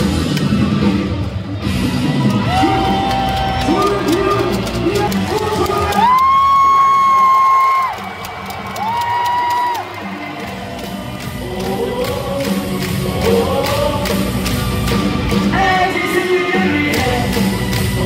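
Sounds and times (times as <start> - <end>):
crowd: 0.0 - 18.0
music with singing: 0.0 - 18.0.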